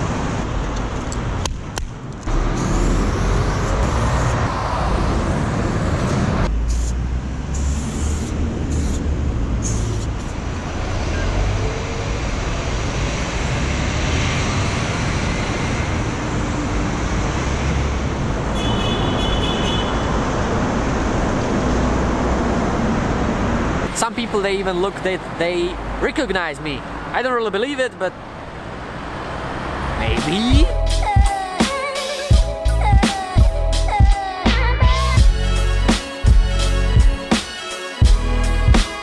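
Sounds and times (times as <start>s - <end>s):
highway traffic rumble: 0.0s - 39.0s.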